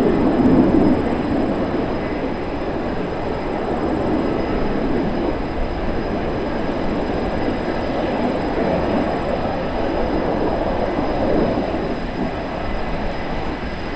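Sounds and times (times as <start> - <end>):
jet engines roaring: 0.0 - 13.9.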